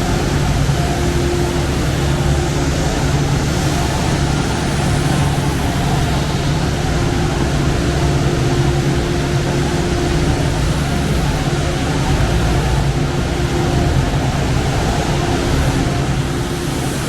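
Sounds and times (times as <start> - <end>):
loud rushing machinery noise: 0.0 - 17.0
low hum: 0.0 - 17.0.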